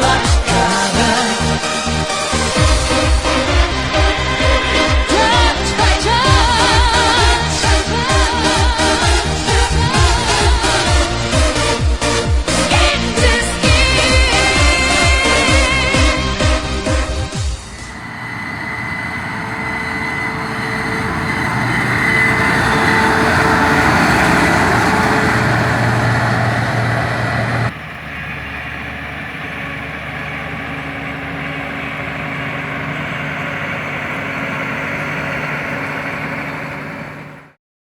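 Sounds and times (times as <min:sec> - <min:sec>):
diesel farm machinery running: 0:00.0 - 0:37.6
steady engine hum: 0:00.0 - 0:37.6.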